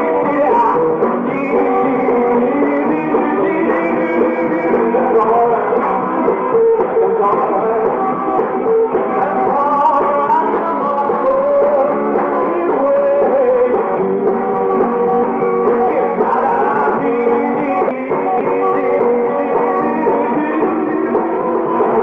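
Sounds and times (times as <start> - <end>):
man singing: 0.0 - 22.0
rock band playing live: 0.0 - 22.0.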